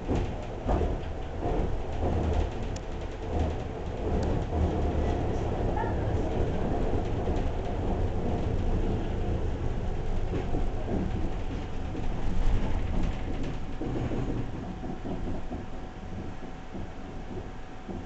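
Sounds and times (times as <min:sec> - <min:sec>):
train rumbling with rattles: 0:00.0 - 0:18.0.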